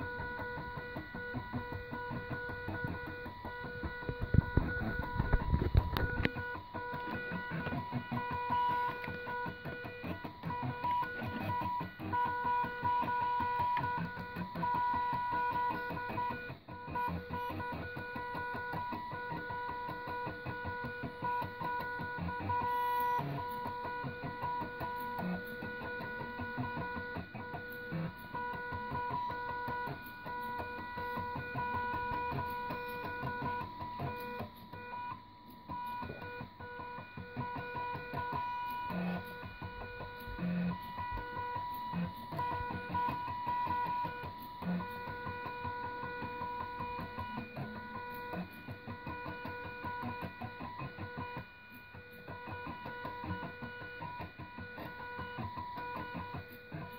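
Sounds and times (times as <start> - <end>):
stepper motors buzzing and clicking: 0.0 - 56.9.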